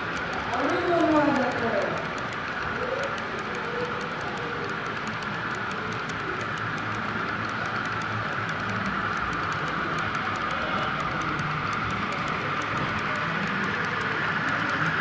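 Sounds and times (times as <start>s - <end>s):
model train motor whir: 0.0s - 15.0s
wheels clicking over rail joints: 0.0s - 15.0s.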